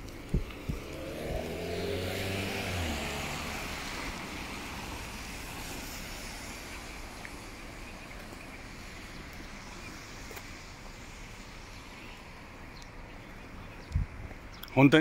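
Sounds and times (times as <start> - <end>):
car engine passing: 0.0 - 12.5
tyres hissing on wet asphalt: 0.0 - 14.9.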